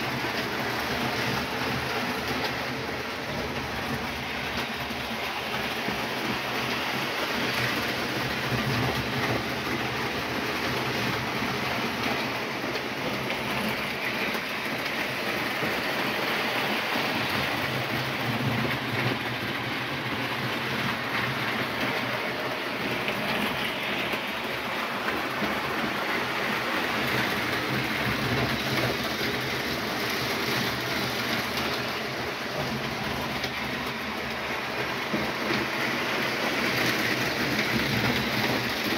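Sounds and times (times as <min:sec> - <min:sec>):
wheels rolling over rails: 0:00.0 - 0:38.9.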